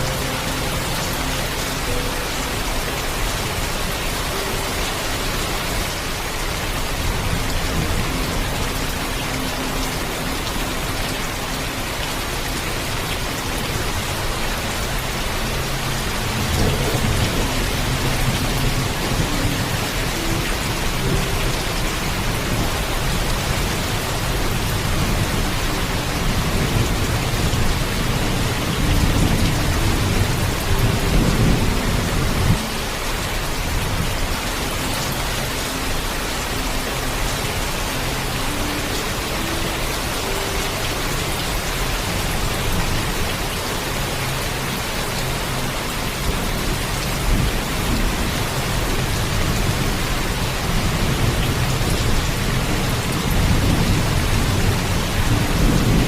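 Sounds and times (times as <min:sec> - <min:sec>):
heavy rainfall: 0:00.0 - 0:56.0.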